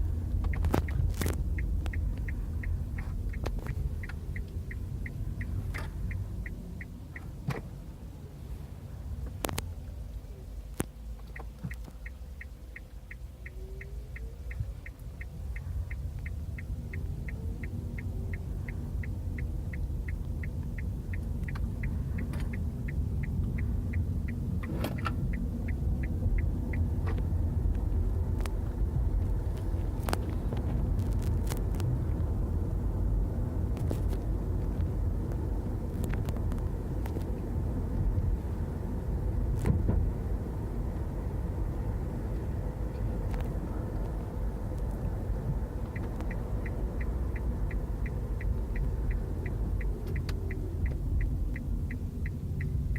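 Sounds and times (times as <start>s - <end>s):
regular ticking: 0.0s - 7.8s, 10.5s - 39.6s, 40.2s - 52.9s
road and tyre rumble: 0.0s - 52.9s.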